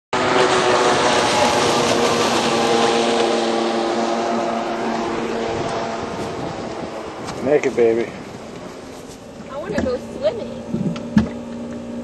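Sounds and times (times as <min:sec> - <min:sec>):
motorboat engine drone: 0:00.2 - 0:12.0
water rushing past hull: 0:00.2 - 0:12.0.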